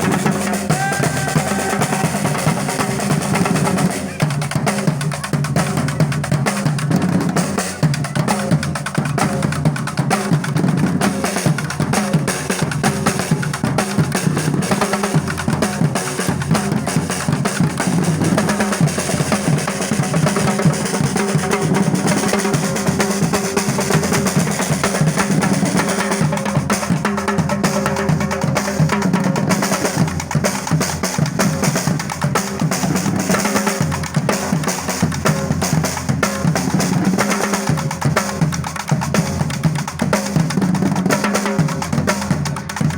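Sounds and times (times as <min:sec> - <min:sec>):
music with fast drumming: 0:00.0 - 0:42.9.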